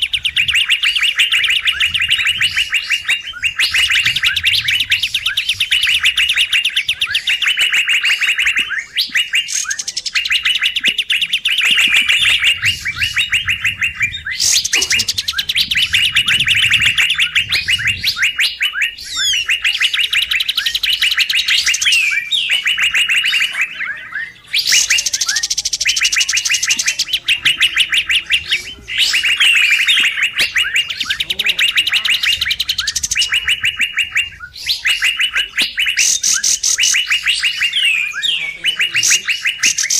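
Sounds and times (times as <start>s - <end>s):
bird chattering chirps: 0.0s - 39.9s
high bird trills: 0.0s - 39.9s.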